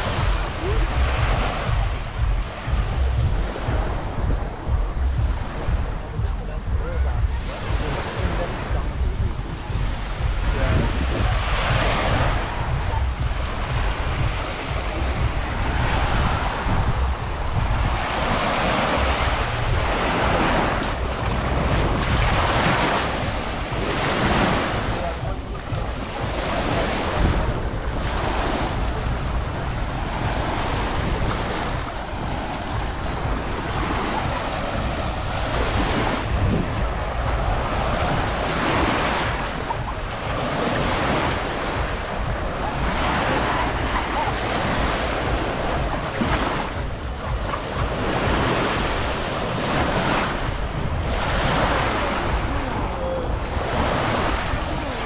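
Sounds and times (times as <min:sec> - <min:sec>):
sea waves breaking on beach: 0:00.0 - 0:55.0
wind buffeting microphone: 0:00.0 - 0:55.0.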